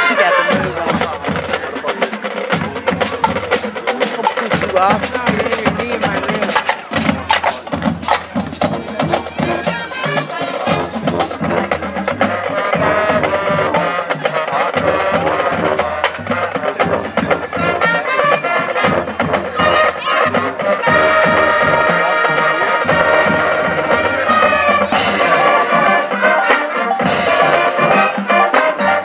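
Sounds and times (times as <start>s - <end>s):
drumline percussion: 0.0s - 29.0s
marching band playing: 0.0s - 29.0s.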